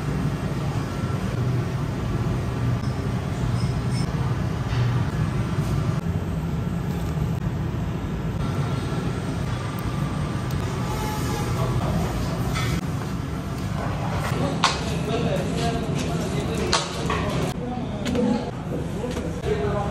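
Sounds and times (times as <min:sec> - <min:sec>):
kitchen equipment humming: 0:00.0 - 0:17.8.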